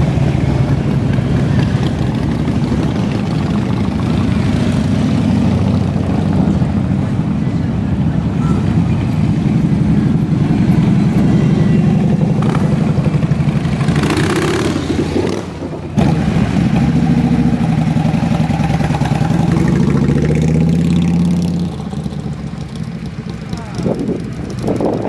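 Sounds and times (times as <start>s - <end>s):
motorcycle engines running: 0.0s - 25.0s.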